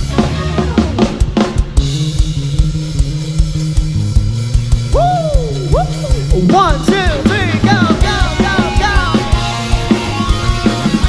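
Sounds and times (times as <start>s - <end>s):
bass line: 0.0s - 11.0s
drum kit beating: 0.0s - 11.0s
electric guitar: 0.0s - 11.0s.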